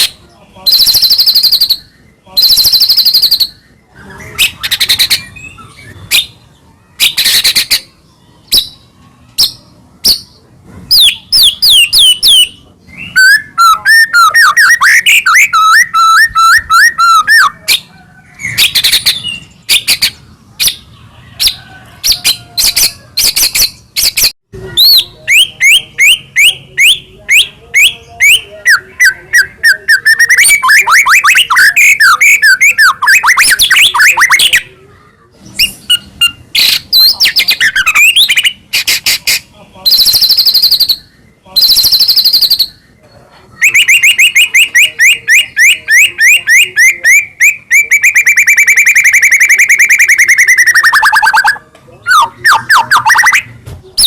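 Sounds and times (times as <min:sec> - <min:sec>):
bird singing loudly: 0:00.0 - 0:34.7, 0:35.5 - 0:43.0, 0:43.6 - 0:53.6.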